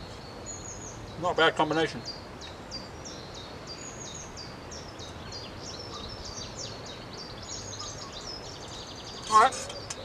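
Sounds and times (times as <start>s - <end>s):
faint background hiss: 0.0s - 10.0s
songbirds chirping: 0.0s - 10.0s.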